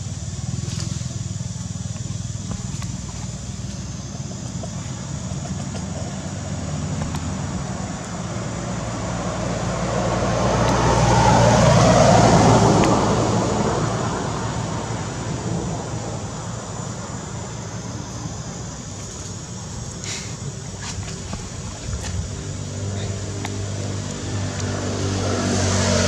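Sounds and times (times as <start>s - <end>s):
low traffic hum: 0.0s - 26.0s
motor vehicle passing by: 2.4s - 18.1s, 20.1s - 26.0s.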